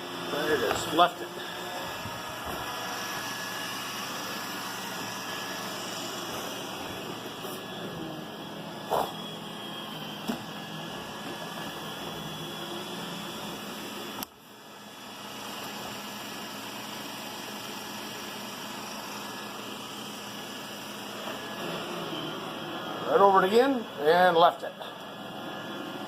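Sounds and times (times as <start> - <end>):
robot vacuum whirring: 0.0 - 24.1.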